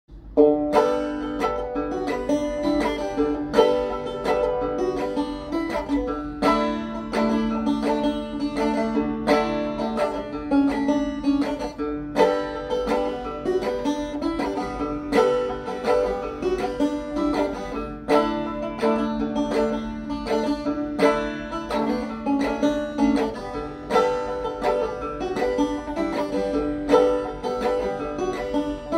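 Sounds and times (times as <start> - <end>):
banjo playing a tune: 0.1 - 28.9.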